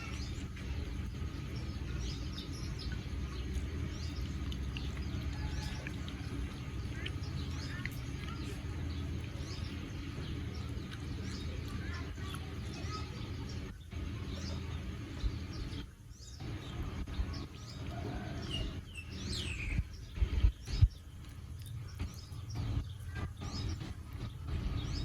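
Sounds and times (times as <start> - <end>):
birds chirping: 0.0 - 25.0
low steady rumble: 0.0 - 25.0.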